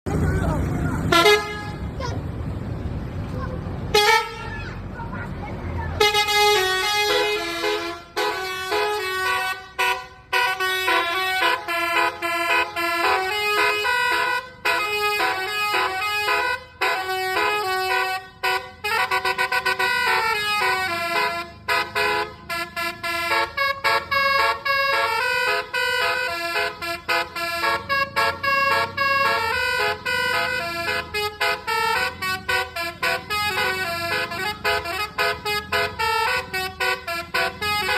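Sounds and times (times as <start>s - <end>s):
bus air horn playing a tune: 1.0s - 2.0s, 3.9s - 4.8s, 6.0s - 37.9s.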